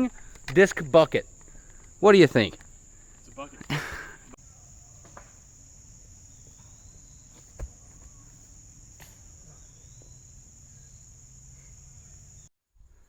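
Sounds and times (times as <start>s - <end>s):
insects chirring: 0.0s - 12.5s.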